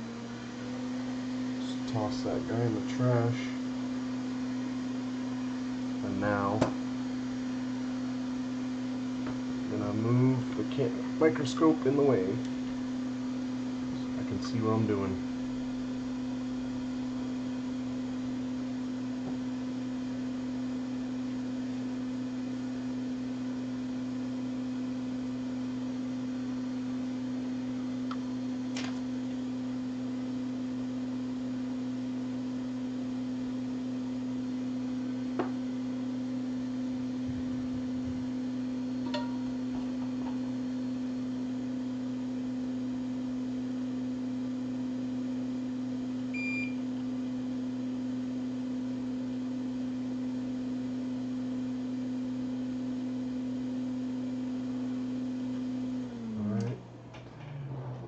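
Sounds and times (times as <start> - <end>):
electrical hum: 0.0 - 50.2, 51.2 - 58.0.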